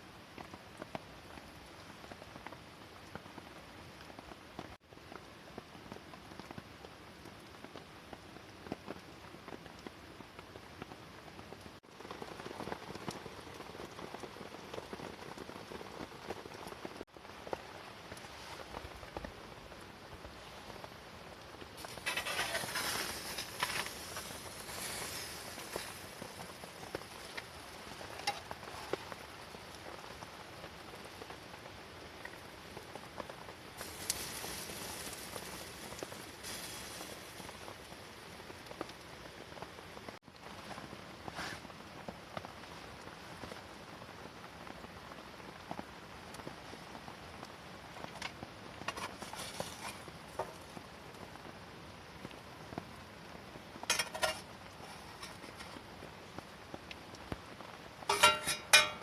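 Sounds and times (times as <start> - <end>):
rain pattering on tent fabric: 0.0 - 59.0.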